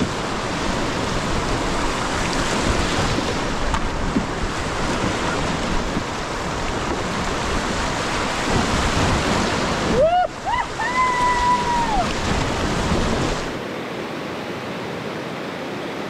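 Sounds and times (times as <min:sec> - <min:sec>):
whitewater rapids roaring: 0:00.0 - 0:16.0.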